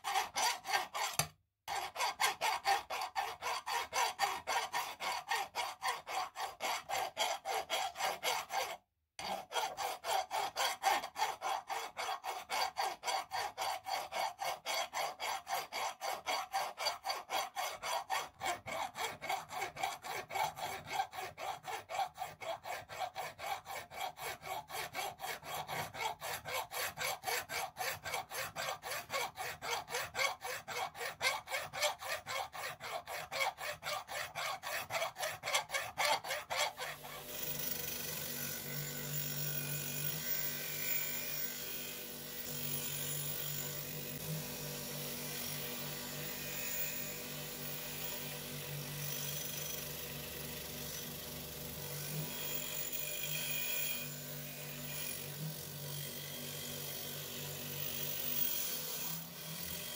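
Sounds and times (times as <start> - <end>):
hand file rasping on iron: 0.0 - 59.9.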